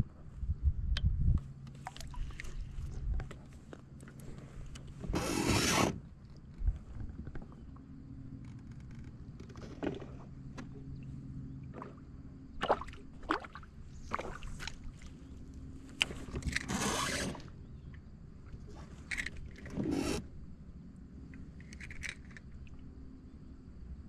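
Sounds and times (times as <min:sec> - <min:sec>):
steady low hum: 0:00.0 - 0:24.0
water sloshing along hull: 0:01.7 - 0:23.2.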